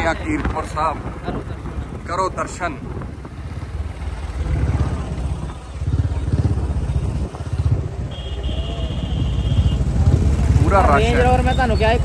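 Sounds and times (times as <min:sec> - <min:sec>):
motorcycle engine running: 0:00.4 - 0:12.0.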